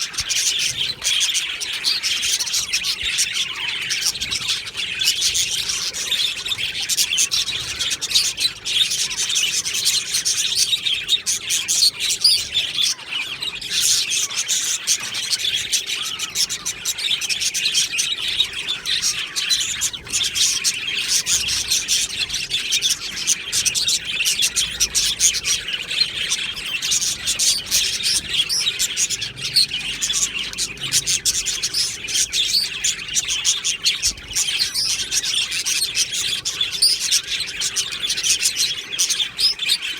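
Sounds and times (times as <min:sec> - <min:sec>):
flock of budgerigars chirping: 0:00.0 - 0:39.9.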